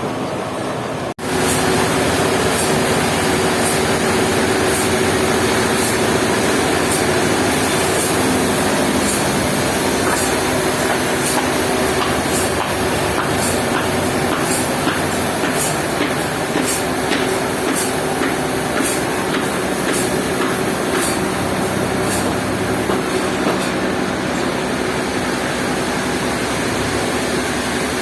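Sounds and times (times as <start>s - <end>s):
sawmill machinery drone: 0.0s - 28.0s.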